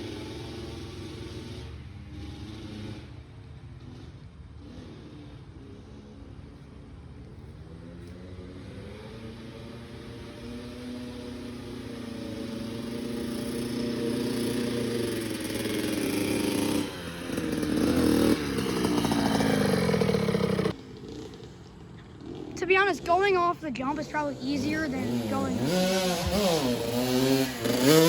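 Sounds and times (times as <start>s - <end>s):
dirt bike engine revving: 0.0s - 3.2s, 8.2s - 28.0s.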